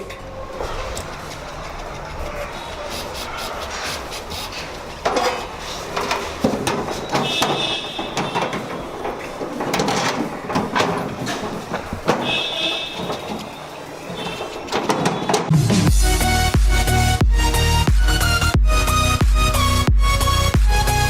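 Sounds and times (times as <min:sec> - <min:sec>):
fan motor knocking and scraping: 0:00.0 - 0:17.2.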